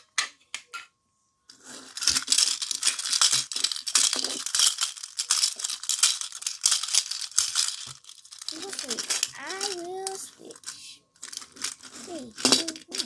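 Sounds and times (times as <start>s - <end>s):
plastic toys rattling: 1.5s - 13.0s.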